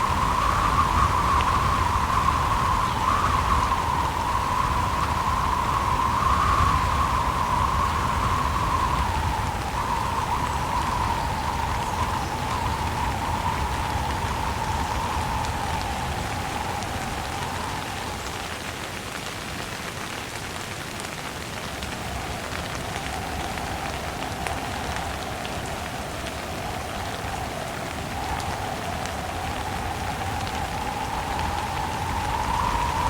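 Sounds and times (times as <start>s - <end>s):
gusting wind: 0.0s - 19.8s, 21.4s - 33.0s
rain drop ticks: 0.0s - 33.0s
steady rain falling: 0.0s - 33.0s.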